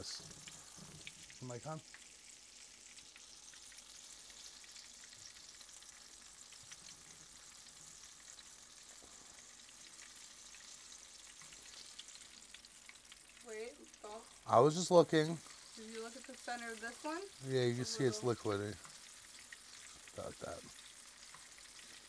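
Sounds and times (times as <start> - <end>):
fritters sizzling in oil: 0.0 - 22.0.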